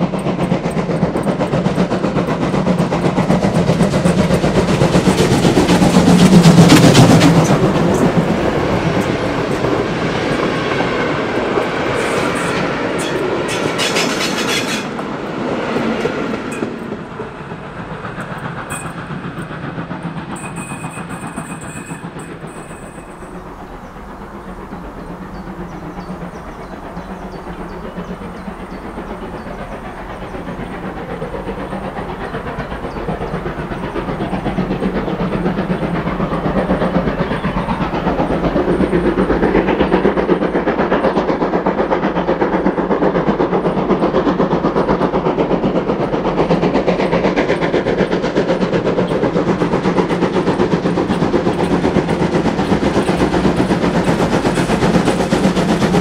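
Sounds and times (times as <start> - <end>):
steam locomotive passing: 0.0 - 56.0
train wheels clickety-clack: 0.0 - 56.0.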